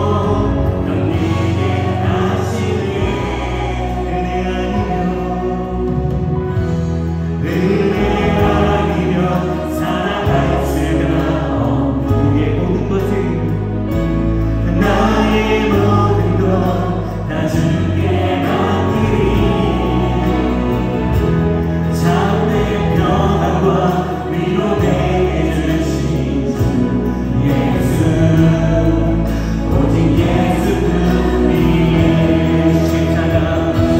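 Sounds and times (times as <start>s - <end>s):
group singing praise song: 0.0s - 33.9s
live band playing: 0.0s - 33.9s.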